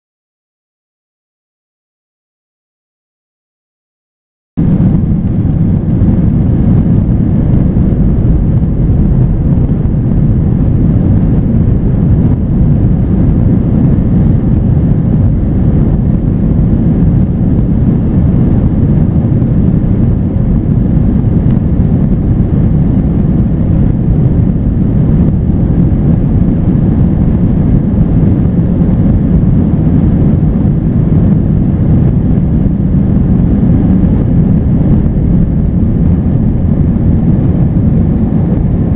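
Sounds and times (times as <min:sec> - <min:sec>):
airliner cabin rumble: 0:04.6 - 0:38.9.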